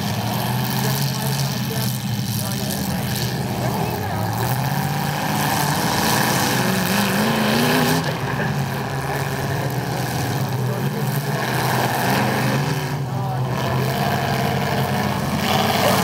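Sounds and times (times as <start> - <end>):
car engines running: 0.0 - 16.0
engine revving whine: 0.0 - 16.0.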